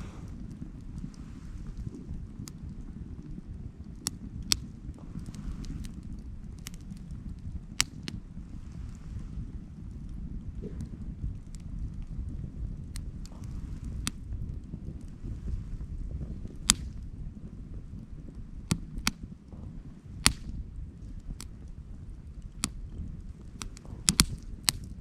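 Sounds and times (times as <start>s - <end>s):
fire popping and snapping: 0.0s - 25.0s
low rumble of fire: 0.0s - 25.0s.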